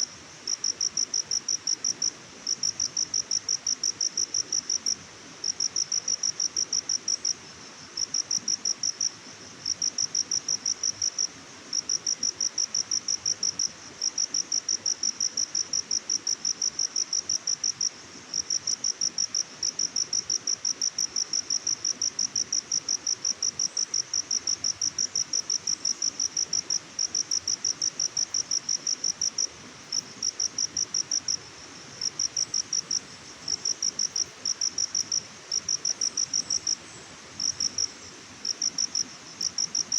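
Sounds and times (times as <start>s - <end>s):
cricket chirping: 0.0s - 39.9s
soft steady hiss: 0.0s - 39.9s.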